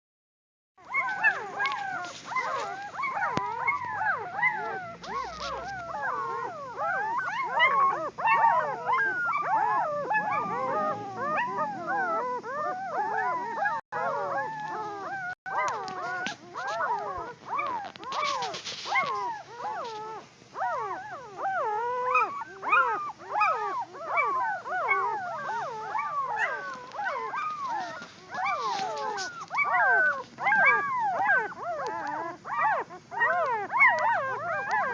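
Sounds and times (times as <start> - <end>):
puppies whining and yelping: 0.8 - 34.9.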